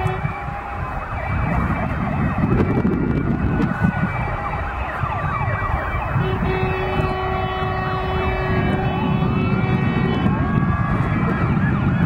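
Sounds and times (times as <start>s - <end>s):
fire truck sirens wailing: 0.0s - 12.0s
truck engines rumbling: 0.0s - 12.0s.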